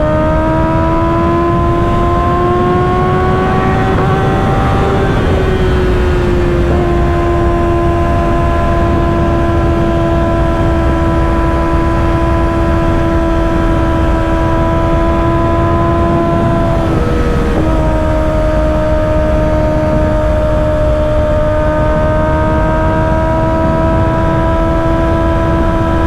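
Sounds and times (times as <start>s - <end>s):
motorcycle engine cruising: 0.0s - 26.0s
wind rushing over microphone: 0.0s - 26.0s.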